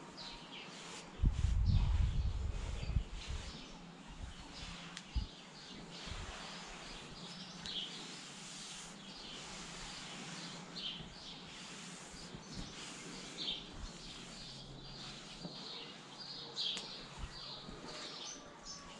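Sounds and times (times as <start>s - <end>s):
small birds chirping: 0.1s - 18.9s
towel rubbing horse coat: 0.2s - 18.8s.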